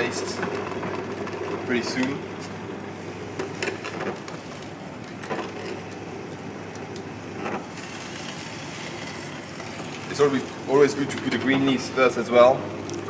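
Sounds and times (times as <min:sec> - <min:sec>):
juicer humming: 0:00.0 - 0:13.0.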